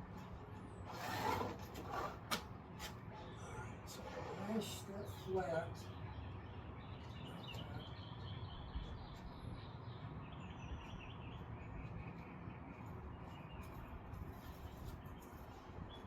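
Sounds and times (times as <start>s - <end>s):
birds chirping: 3.0s - 16.0s.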